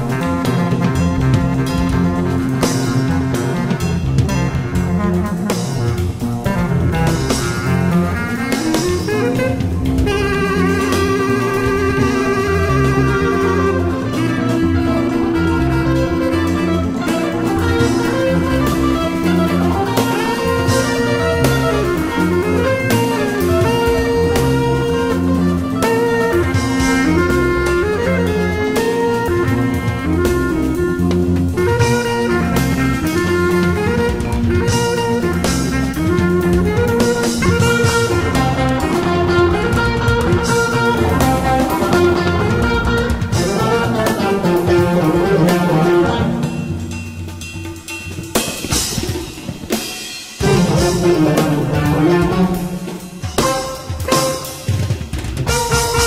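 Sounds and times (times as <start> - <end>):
walking double bass: 0.0 - 49.7, 50.4 - 56.0
guitar: 0.0 - 56.0
hand percussion: 0.0 - 56.0
jazz fusion ensemble playing: 0.0 - 56.0
marimba: 0.0 - 56.0.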